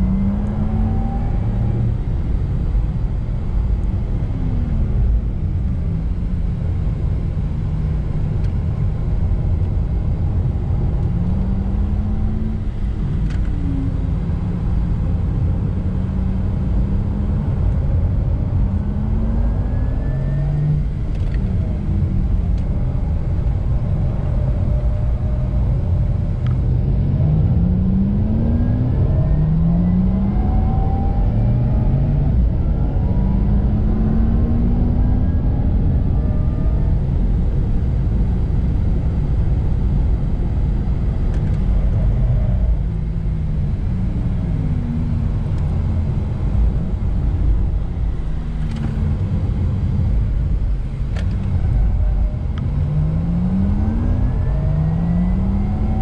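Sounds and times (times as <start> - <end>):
road and tyre rumble: 0.0 - 56.0.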